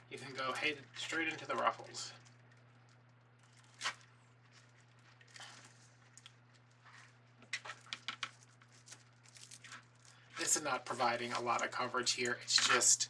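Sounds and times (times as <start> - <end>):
steady low hum: 0.0 - 13.0
mesh crinkling and clicking: 0.2 - 13.0.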